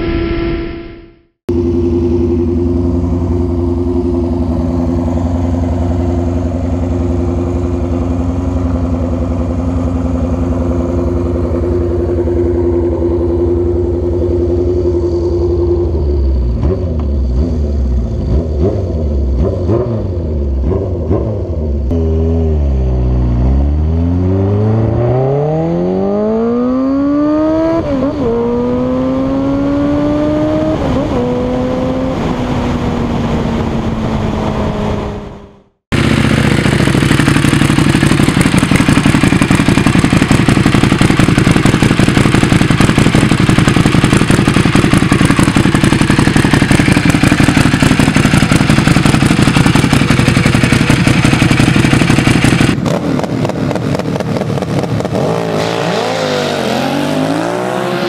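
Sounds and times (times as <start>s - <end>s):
sport bike engine running: 1.5s - 32.9s, 33.5s - 55.3s
motorcycle accelerating through gears: 1.5s - 58.0s
quieter engine sound: 1.5s - 58.0s.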